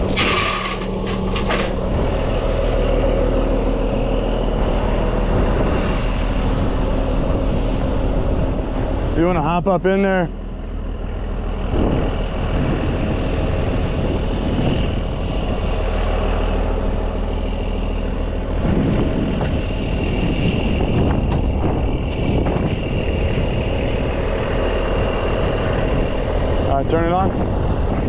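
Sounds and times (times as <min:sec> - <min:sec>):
heavy truck engine running: 0:00.0 - 0:28.0
high whine: 0:00.0 - 0:28.0.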